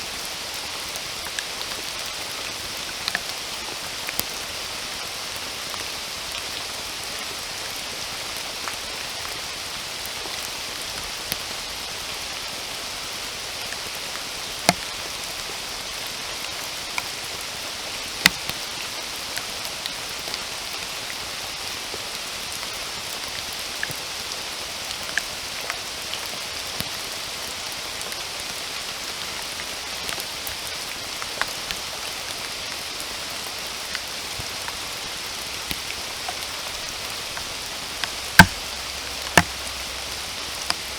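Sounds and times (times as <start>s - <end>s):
raindrops ticking close by: 0.0s - 40.9s
steady rain hiss: 0.0s - 40.9s.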